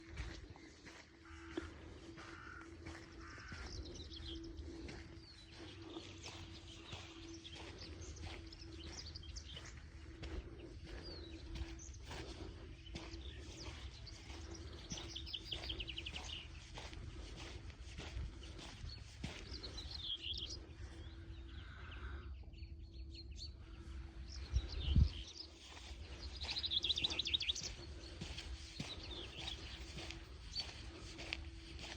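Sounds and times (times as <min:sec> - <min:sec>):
small birds chirping and trilling: 0:00.0 - 0:31.9.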